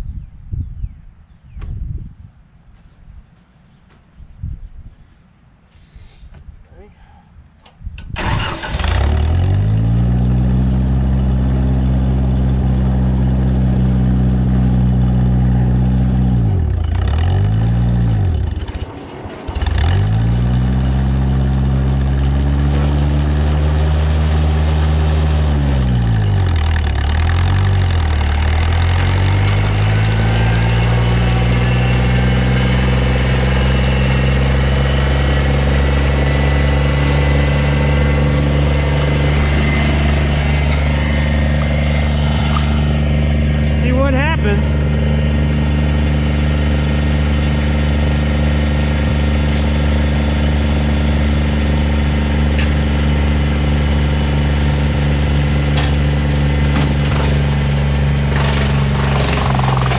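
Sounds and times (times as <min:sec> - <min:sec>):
wood chipper engine bogging: 0:08.2 - 0:59.9.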